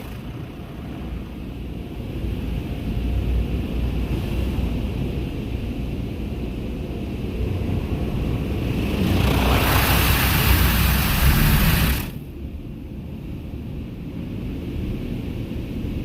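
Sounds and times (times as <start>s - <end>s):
car wash low rumble: 0.0s - 16.0s.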